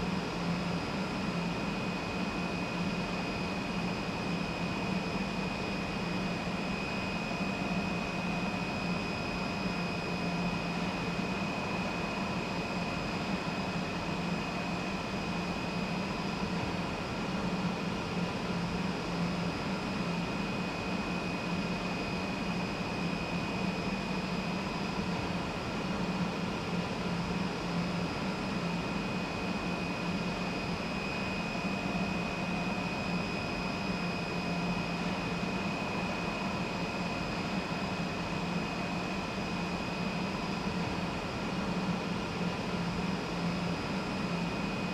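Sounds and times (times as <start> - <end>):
high-pitched machine whine: 0.0 - 44.9.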